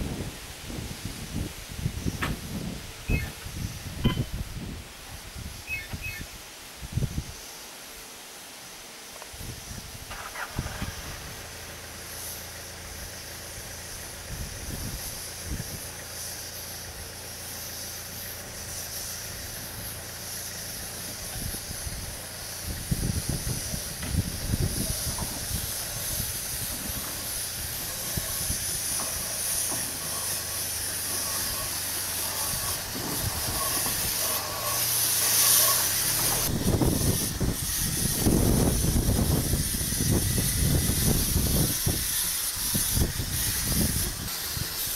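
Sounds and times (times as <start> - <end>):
steam locomotive hissing steam: 0.0 - 44.9.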